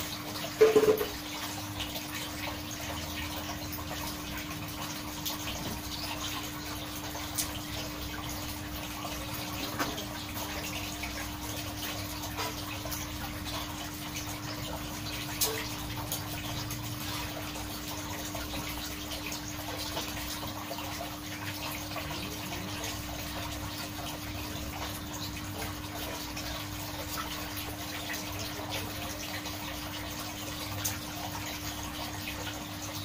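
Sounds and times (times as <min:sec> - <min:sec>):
aquarium water bubbling: 0:00.0 - 0:33.0.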